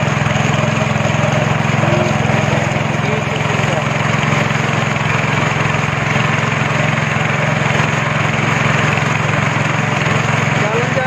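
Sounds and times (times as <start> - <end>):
speedboat engine humming: 0.0 - 11.0.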